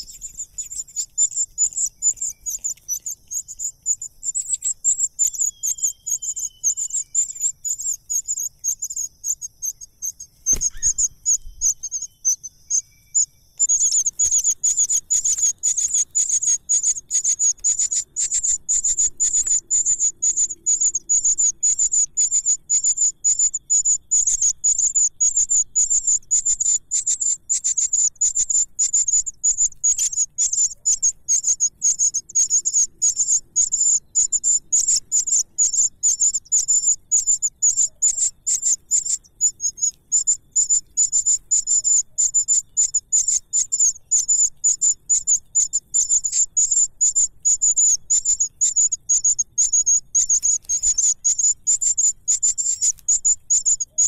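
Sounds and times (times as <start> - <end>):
nestling birds cheeping: 0.0 - 54.0.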